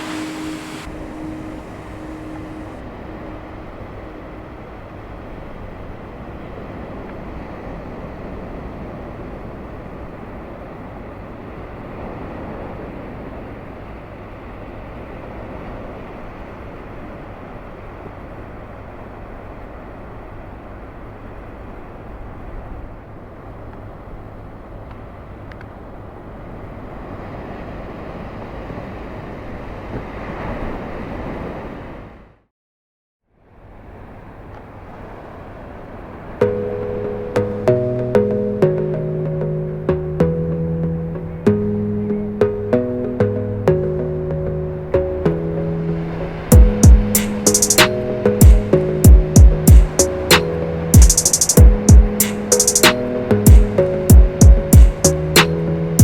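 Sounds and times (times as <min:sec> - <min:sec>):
ocean surf: 0:00.0 - 0:32.3, 0:33.6 - 0:56.0.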